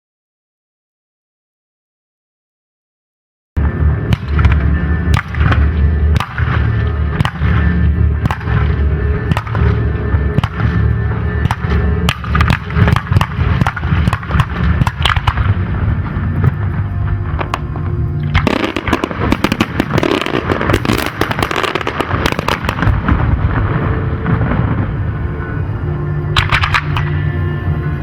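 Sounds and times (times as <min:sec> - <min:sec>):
fireworks banging and crackling: 0:03.6 - 0:28.0
music: 0:03.6 - 0:28.0.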